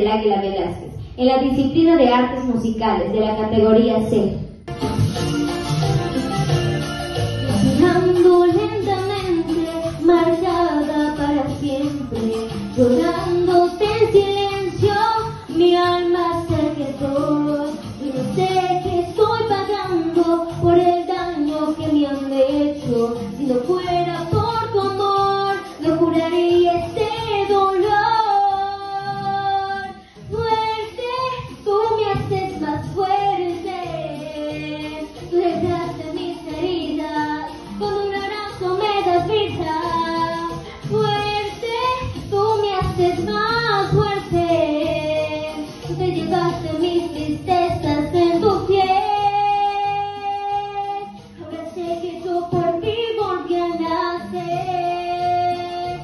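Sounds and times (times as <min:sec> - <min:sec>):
instrumental accompaniment: 0:04.6 - 0:56.0
girl singing into microphone: 0:07.5 - 0:56.0.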